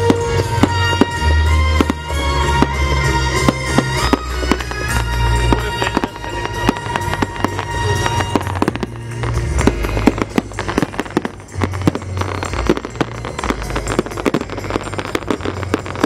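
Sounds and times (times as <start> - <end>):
fireworks bangs and crackles: 0.0 - 16.0
low fireworks booms: 0.0 - 16.0
music playing: 0.0 - 16.0.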